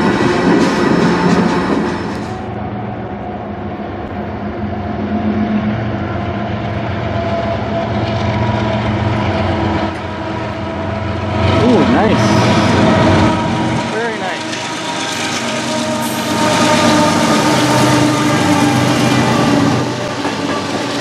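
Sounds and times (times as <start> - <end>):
diesel locomotive engine drone: 0.0 - 21.0
freight cars rolling on rails: 0.0 - 21.0.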